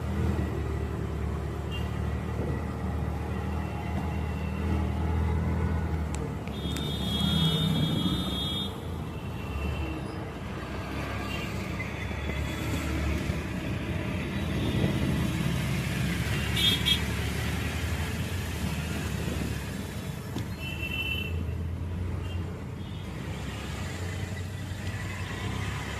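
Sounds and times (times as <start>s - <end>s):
vehicle engines rumbling: 0.0s - 25.9s.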